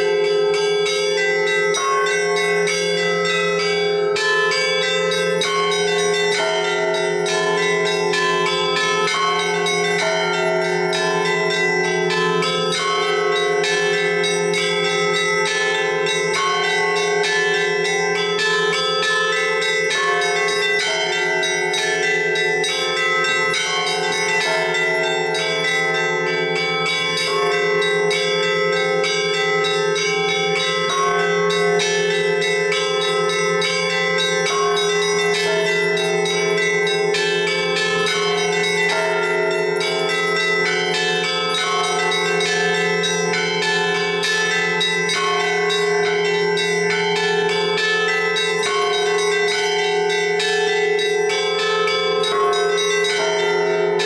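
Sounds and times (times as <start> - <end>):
middle church bells: 0.0 - 54.0
small bells chiming rapidly: 0.0 - 54.0.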